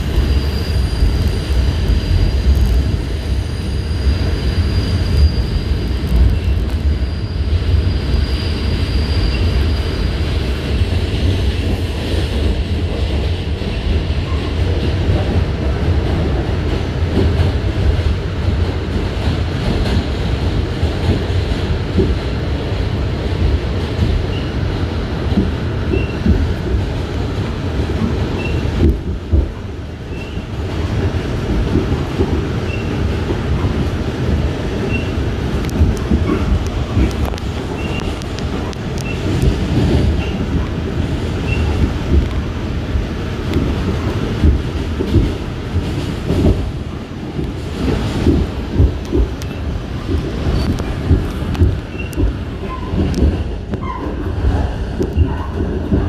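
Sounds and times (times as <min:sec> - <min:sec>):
subway train rumbling: 0:00.0 - 0:56.0.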